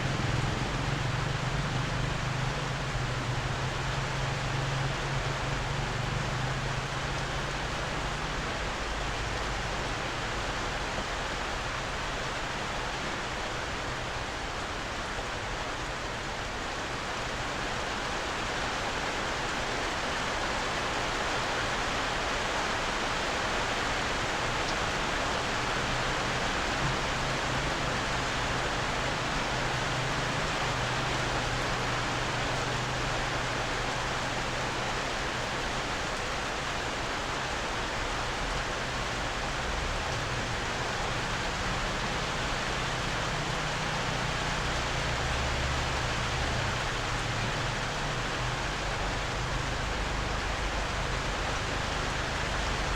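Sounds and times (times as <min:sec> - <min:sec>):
heavy rain on bamboo roof: 0:00.0 - 0:52.9.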